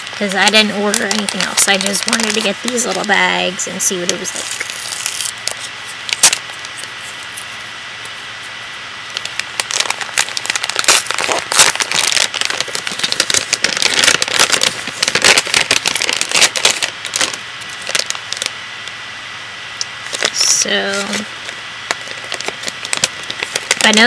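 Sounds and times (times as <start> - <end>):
plastic packaging crinkling: 0.0 - 18.6, 20.0 - 24.0.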